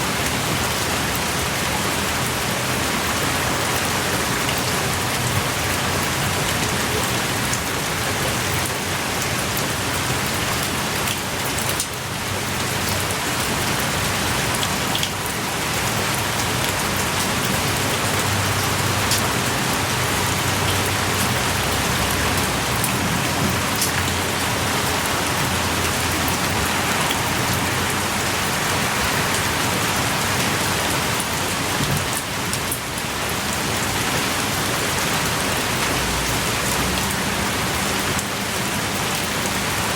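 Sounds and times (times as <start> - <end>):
heavy rain pouring: 0.0 - 39.9
raindrops striking close by: 0.0 - 39.9.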